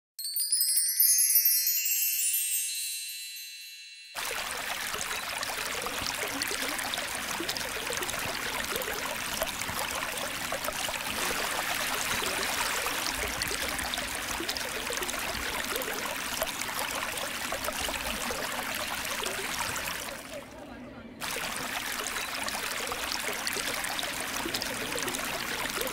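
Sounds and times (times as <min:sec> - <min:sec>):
stream rushing over rocks: 0:04.2 - 0:20.4, 0:21.2 - 0:25.9.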